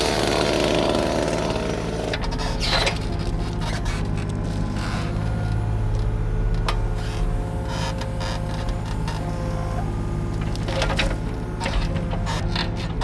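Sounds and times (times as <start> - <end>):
excavator diesel engine: 0.0 - 13.0
hydraulics whining: 0.0 - 13.0.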